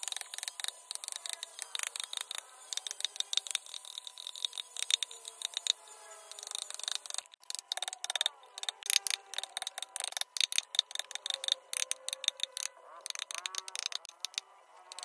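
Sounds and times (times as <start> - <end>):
carving tools cutting wood: 0.0 - 15.0.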